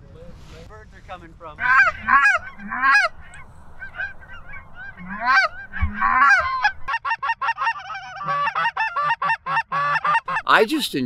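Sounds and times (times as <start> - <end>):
goose call honks and clucks: 1.6 - 10.6.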